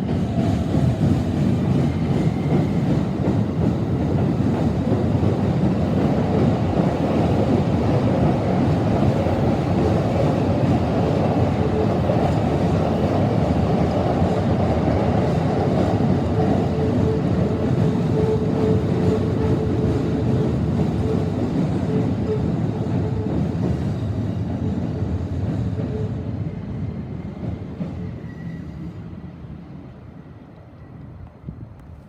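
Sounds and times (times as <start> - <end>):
electric train rumbling past: 0.0 - 32.0.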